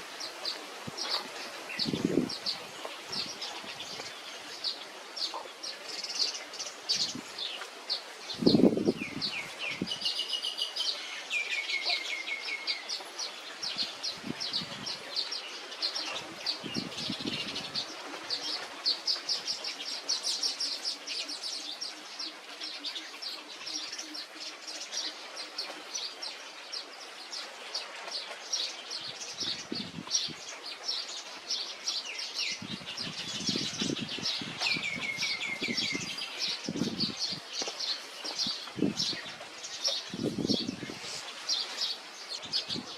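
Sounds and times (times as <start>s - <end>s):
small birds chirping rapidly: 0.1s - 42.9s.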